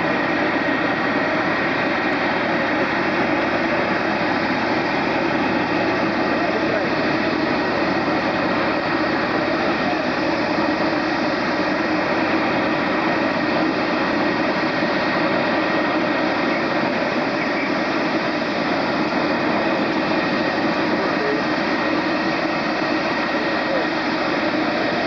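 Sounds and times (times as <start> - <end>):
jet engine running with high whine: 0.0 - 25.0.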